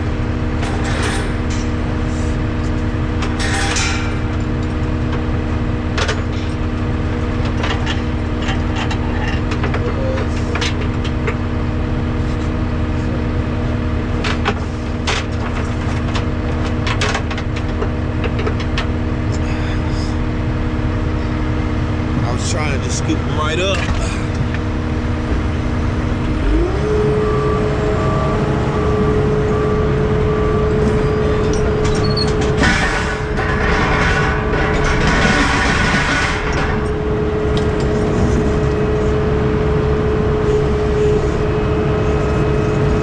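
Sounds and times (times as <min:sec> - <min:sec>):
diesel truck engine rumbling: 0:00.0 - 0:43.0.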